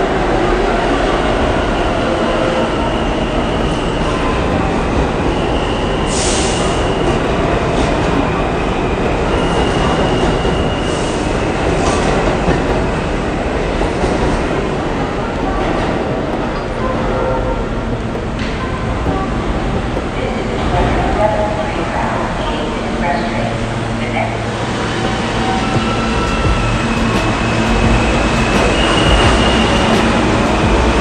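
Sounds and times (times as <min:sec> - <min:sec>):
subway train rumble: 0:00.0 - 0:31.0.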